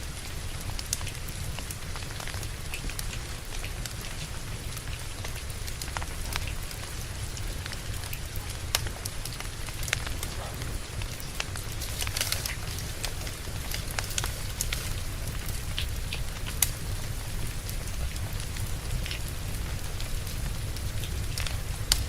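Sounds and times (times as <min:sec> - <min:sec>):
steady rain: 0:00.0 - 0:22.0
wood fire crackling: 0:00.0 - 0:22.0.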